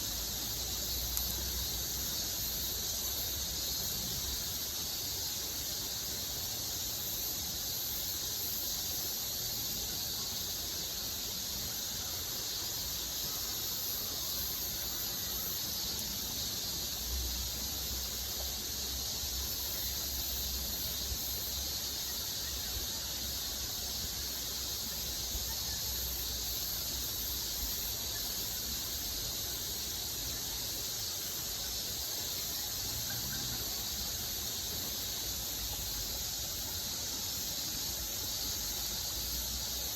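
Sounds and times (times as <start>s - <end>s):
high-pitched insect chorus: 0.0s - 39.9s
rushing hiss: 0.0s - 39.9s.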